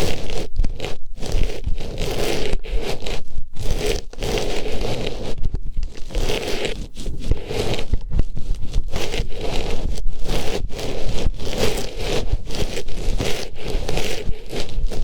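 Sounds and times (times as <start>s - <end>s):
artificial rose rustling on microphone: 0.0s - 15.0s.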